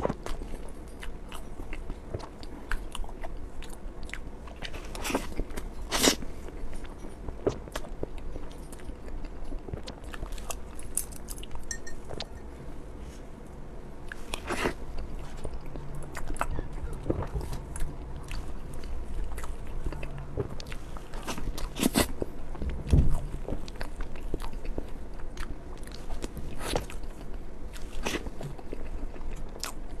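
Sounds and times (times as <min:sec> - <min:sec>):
chewing with clicks: 0:00.0 - 0:12.4, 0:14.1 - 0:30.0.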